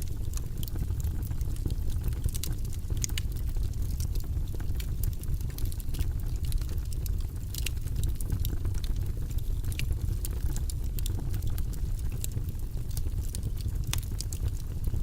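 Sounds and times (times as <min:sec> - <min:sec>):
fire crackling and popping: 0:00.0 - 0:15.0
fire roaring: 0:00.0 - 0:15.0.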